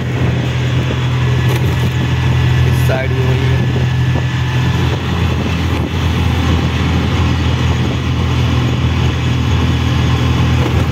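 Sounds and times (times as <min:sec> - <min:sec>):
auto-rickshaw engine drone: 0:00.0 - 0:10.9
road and traffic noise: 0:00.0 - 0:10.9.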